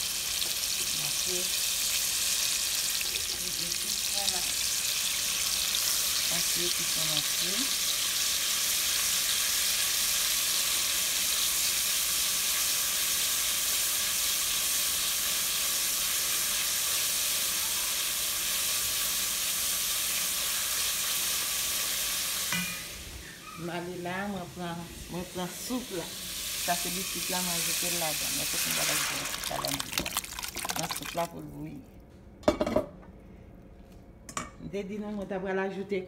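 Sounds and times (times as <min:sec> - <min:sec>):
oil sizzling in pot: 0:00.0 - 0:31.4.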